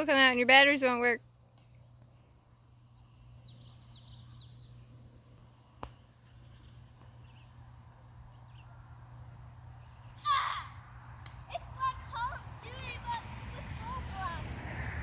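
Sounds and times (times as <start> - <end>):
songbird chirping: 0.0 - 12.7
steady low hum: 0.0 - 15.0.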